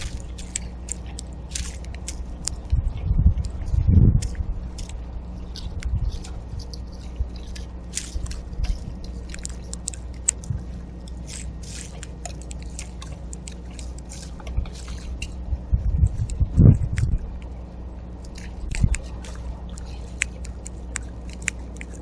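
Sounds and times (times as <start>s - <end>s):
seeds cracking clicks: 0.0s - 2.8s, 3.4s - 15.4s, 18.2s - 22.0s
low hum: 0.0s - 22.0s.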